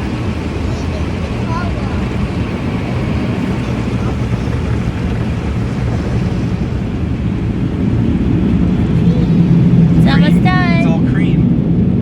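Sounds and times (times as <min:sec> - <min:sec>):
car wash machinery and water: 0:00.0 - 0:12.0.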